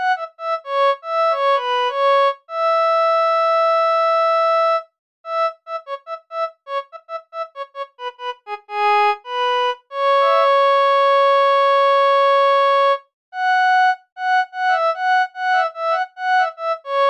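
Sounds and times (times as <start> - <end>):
harmonium melody: 0.0 - 17.0.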